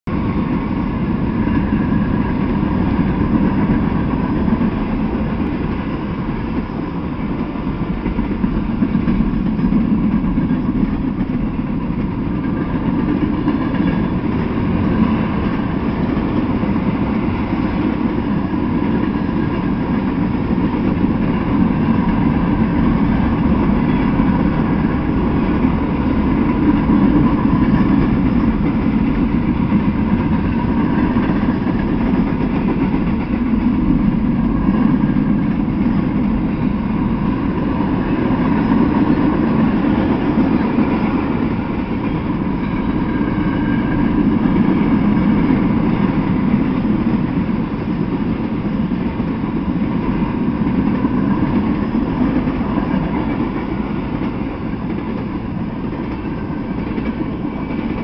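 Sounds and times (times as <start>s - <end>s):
train wheels rolling on rails: 0.1s - 58.0s.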